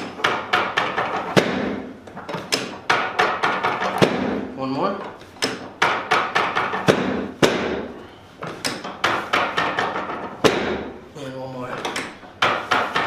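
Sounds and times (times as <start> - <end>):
sharp cracks and knocks: 0.0 - 4.5, 5.1 - 11.0, 11.7 - 13.0.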